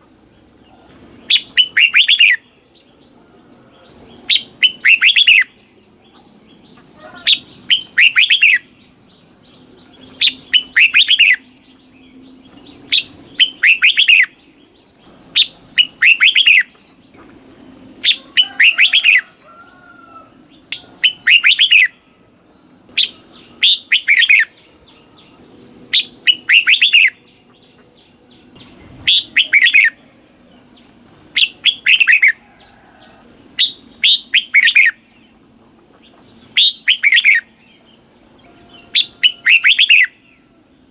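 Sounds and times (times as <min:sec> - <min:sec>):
bulbul singing: 0:00.0 - 0:40.9.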